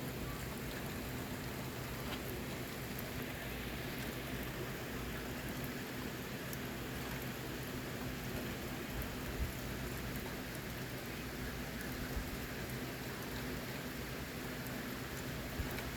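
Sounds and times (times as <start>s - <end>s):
rain pattering on surfaces: 0.0s - 15.9s.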